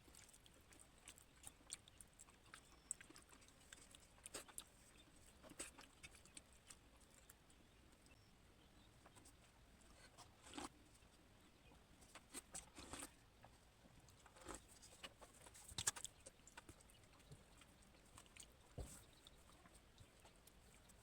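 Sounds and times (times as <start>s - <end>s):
faint eating clicks and smacks: 0.0s - 8.2s, 8.8s - 21.0s.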